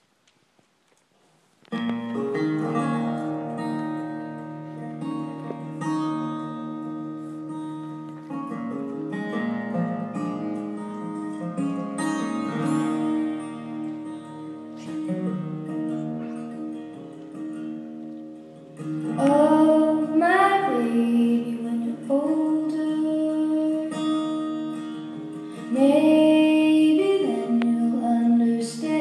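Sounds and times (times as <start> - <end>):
plucked string music: 1.7 - 29.0.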